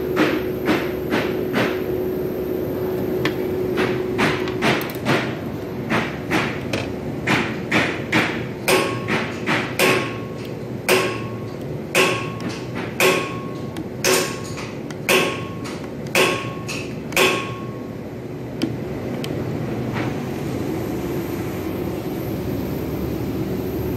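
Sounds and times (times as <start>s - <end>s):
steady hum: 0.0s - 23.9s.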